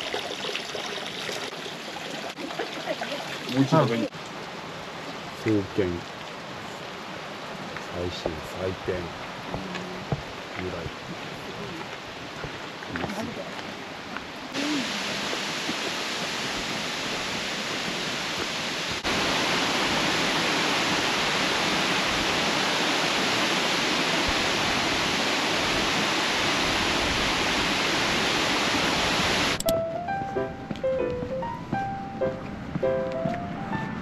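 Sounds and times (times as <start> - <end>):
waterfall rushing: 0.0 - 29.6.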